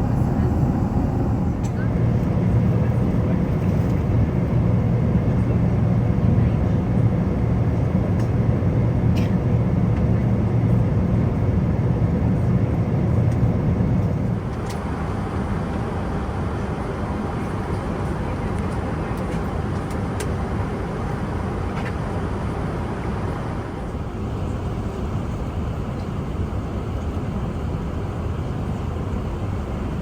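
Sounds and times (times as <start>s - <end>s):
airplane cabin rumble: 0.0s - 27.1s.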